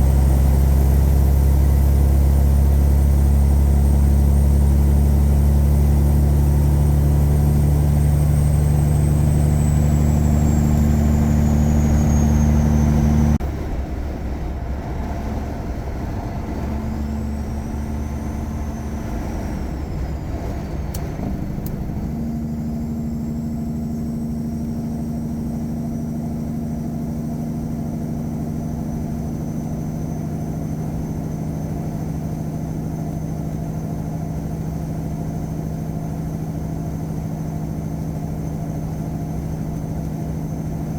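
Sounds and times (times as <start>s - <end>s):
diesel truck engine under load: 0.0s - 40.9s.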